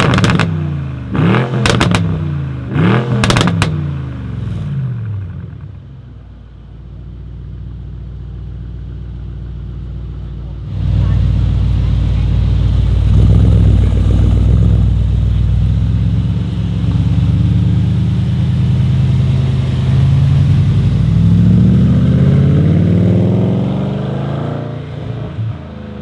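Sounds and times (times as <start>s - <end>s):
car engine accelerating: 0.0s - 6.3s, 7.8s - 26.0s.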